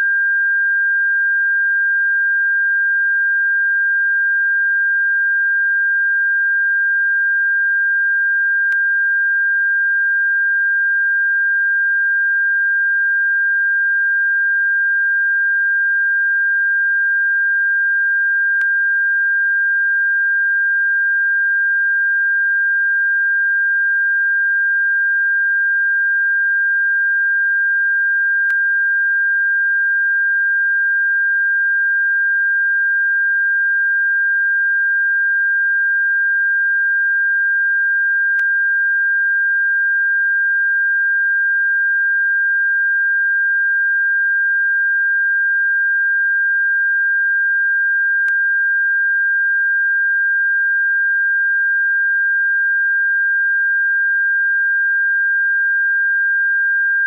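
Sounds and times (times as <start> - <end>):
steady pure sine tone: 0.0 - 57.0.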